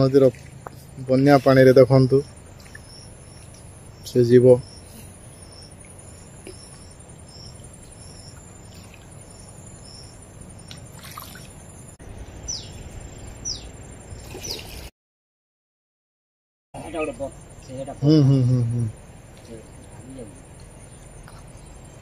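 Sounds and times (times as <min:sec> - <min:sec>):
insect chirping: 0:00.0 - 0:14.9, 0:16.8 - 0:22.0
low outdoor noise: 0:00.0 - 0:14.9, 0:16.8 - 0:22.0.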